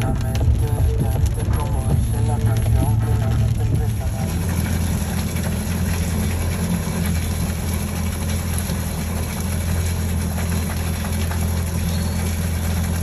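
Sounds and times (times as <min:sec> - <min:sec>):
jet ski engine idling: 0:00.0 - 0:13.0
water pouring out: 0:00.0 - 0:13.0.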